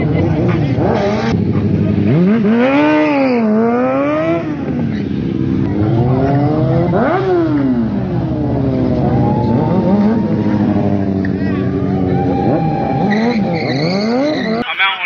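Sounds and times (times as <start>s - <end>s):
motorcycle engine revving: 0.0s - 14.6s
engines idling: 0.0s - 15.0s.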